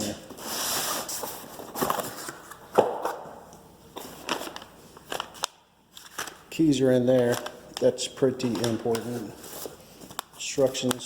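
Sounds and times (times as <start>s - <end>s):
packaging rustling: 0.4s - 3.2s, 4.0s - 11.0s.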